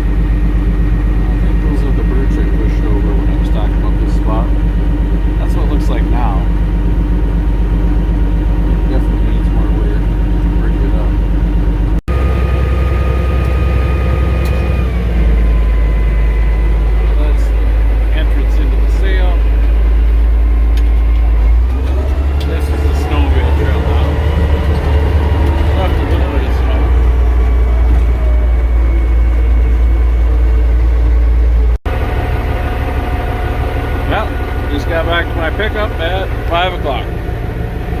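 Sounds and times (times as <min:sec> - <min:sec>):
bulldozer diesel engine running: 0:00.0 - 0:38.0
constant whine: 0:00.0 - 0:38.0.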